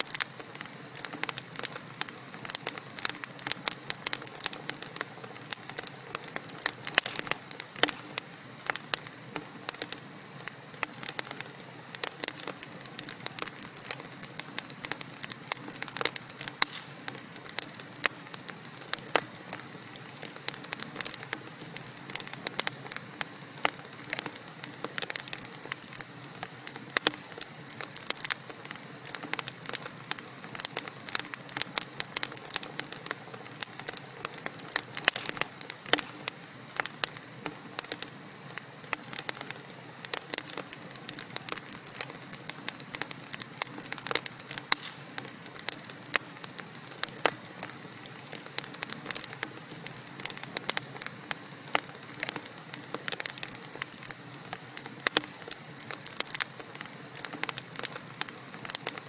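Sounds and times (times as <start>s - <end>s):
low hiss of burning logs: 0.0s - 59.0s
wood fire crackling and popping: 0.0s - 59.0s.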